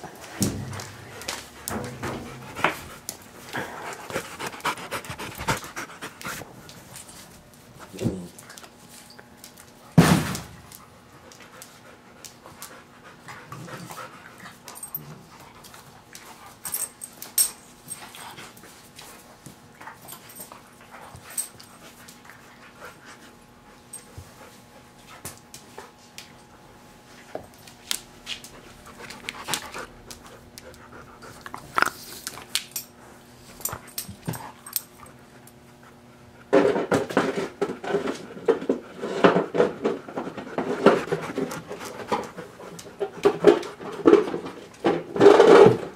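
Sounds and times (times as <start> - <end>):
dogs panting: 0.1 - 7.2, 10.6 - 27.6, 28.4 - 36.8, 37.6 - 44.2.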